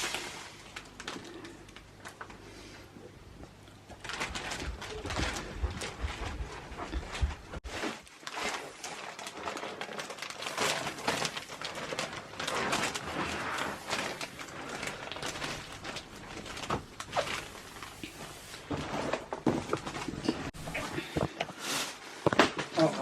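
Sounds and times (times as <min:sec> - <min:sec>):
rustling and scraping objects: 0:00.0 - 0:23.0.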